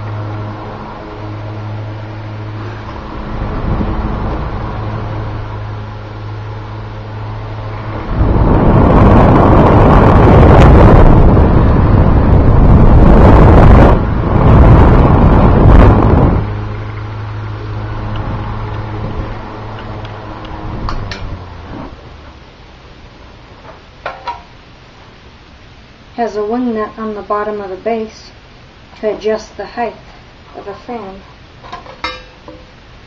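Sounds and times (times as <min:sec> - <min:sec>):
fan air rushing on microphone: 0:00.0 - 0:33.0
fan motor humming: 0:00.0 - 0:33.0.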